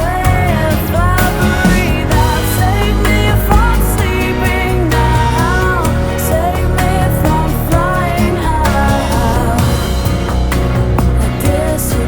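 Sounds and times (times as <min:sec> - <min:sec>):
song with sung melody and bass: 0:00.0 - 0:12.0.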